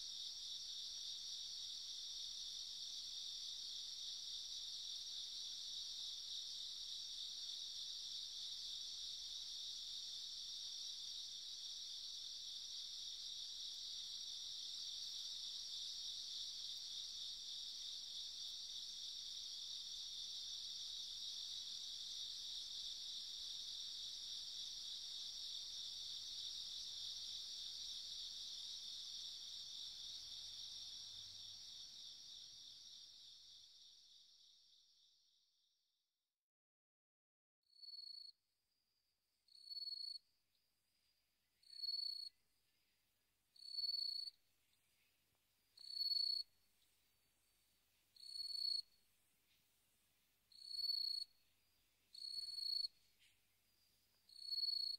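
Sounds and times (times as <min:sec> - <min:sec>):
crickets chirping: 0:00.0 - 0:35.4, 0:39.5 - 0:54.9.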